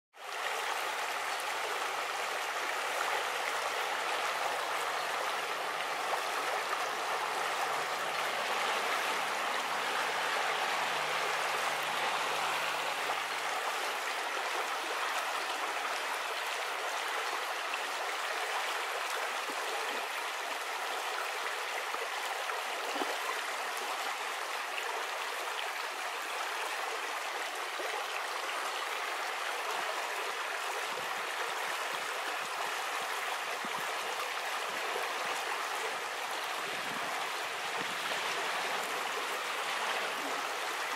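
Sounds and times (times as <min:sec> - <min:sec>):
river water rushing over stones: 0:00.2 - 0:40.9.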